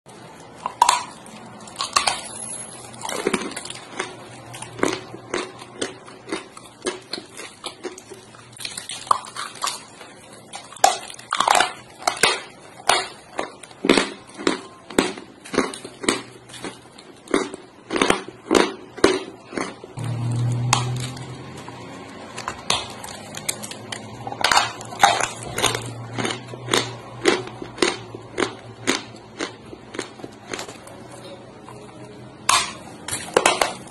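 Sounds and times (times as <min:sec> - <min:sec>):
clay being chewed with crunches: 0:00.1 - 0:33.9.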